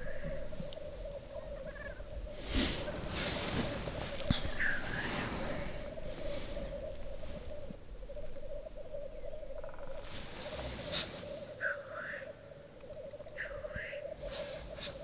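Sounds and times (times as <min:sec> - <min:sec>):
grouse bubbling rookooing: 0:00.0 - 0:15.0.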